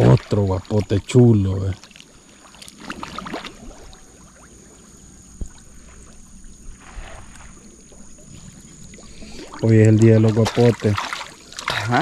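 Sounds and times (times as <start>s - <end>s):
water sloshing and trickling: 0.0s - 12.0s.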